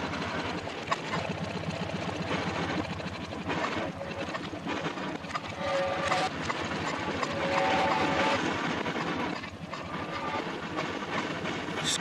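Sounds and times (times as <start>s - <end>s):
reversed van engine running: 0.0s - 11.1s.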